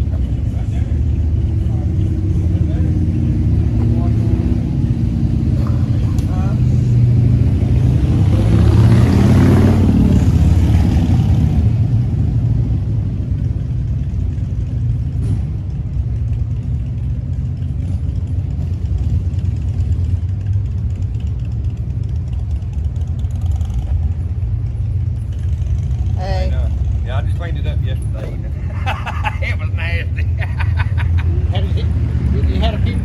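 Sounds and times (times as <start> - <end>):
motorcycle engine rumble: 0.0 - 33.0.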